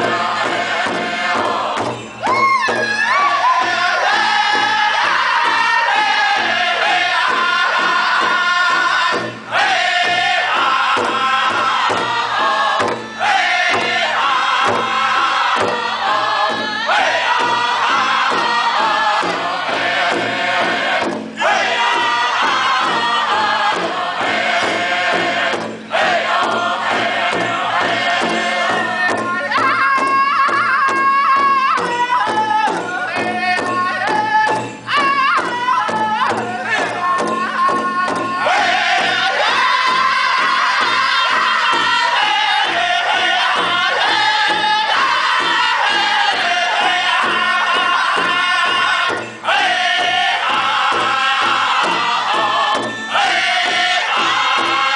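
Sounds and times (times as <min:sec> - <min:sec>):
large drum beats: 0:00.0 - 0:54.9
men singing together: 0:00.0 - 0:54.9.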